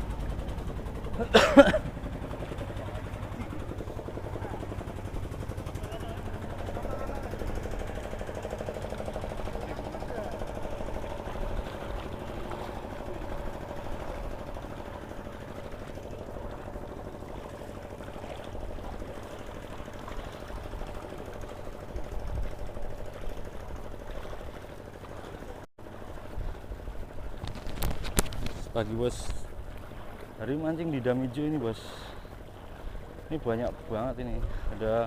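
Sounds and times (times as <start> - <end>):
engine chugging steadily: 0.0 - 27.6, 28.4 - 35.0.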